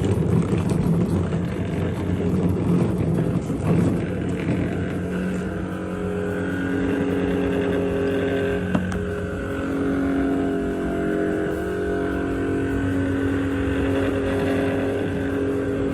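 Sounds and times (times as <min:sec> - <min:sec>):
electric fan humming: 0:00.0 - 0:15.9.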